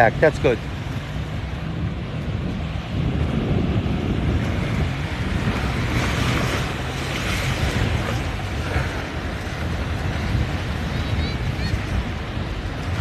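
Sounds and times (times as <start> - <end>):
boat traffic: 0.0 - 13.0
waves washing: 0.0 - 13.0
wind buffeting microphone: 0.0 - 13.0.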